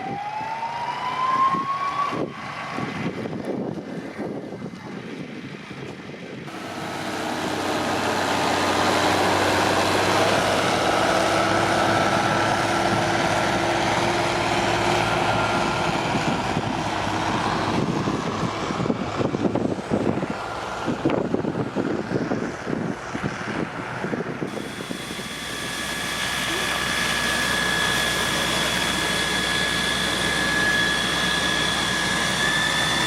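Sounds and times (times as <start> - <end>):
steady whine: 6.5 - 33.0
tractor engine under load: 6.5 - 33.0.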